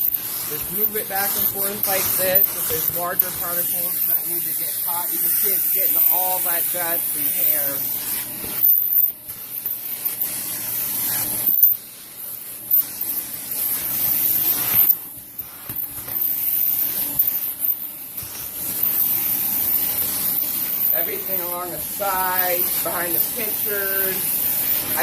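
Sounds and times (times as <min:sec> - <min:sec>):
vacuum suction hissing: 0:00.0 - 0:25.0.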